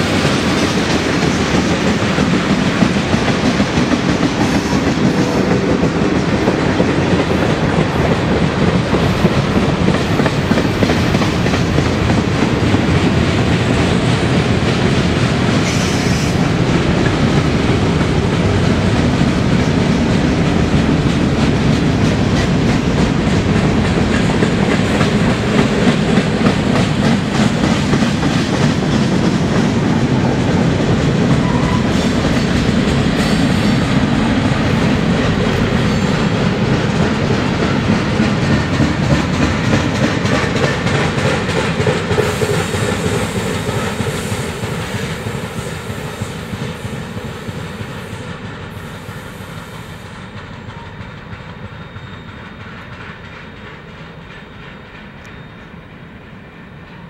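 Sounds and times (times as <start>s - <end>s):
steel wheels running on rail: 0.0s - 57.0s.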